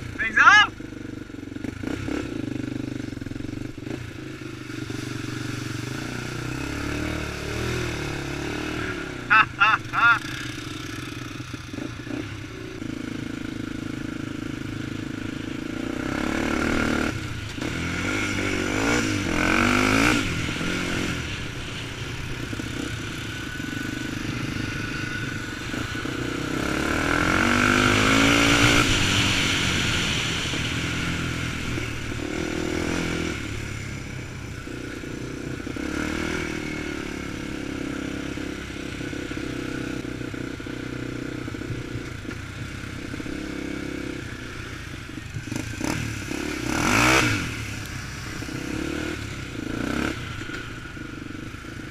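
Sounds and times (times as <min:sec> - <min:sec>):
quad engine revving: 0:00.0 - 0:44.6, 0:45.4 - 0:50.7.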